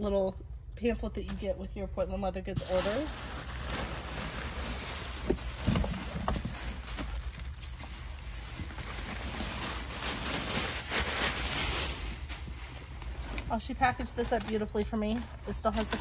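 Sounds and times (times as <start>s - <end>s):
tissue paper rustling: 2.6s - 16.0s.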